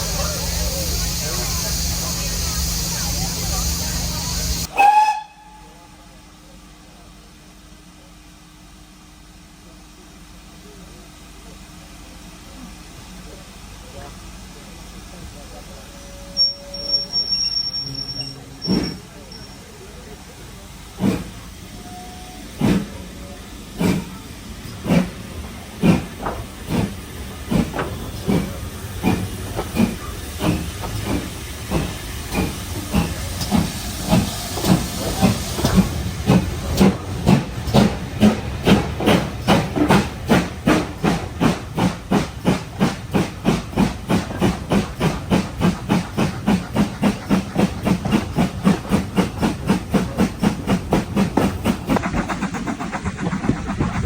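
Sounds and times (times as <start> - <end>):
steam locomotive exhaust chuffs: 0.0 - 5.8, 8.0 - 54.0.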